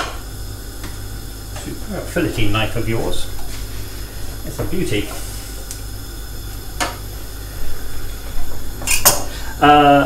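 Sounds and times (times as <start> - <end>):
low kitchen hum: 0.0 - 10.0.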